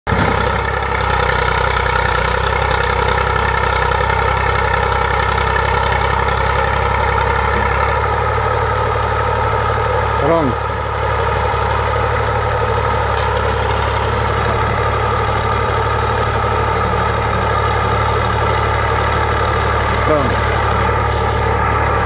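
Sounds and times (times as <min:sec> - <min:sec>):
diesel tractor engine idling: 0:00.0 - 0:22.0.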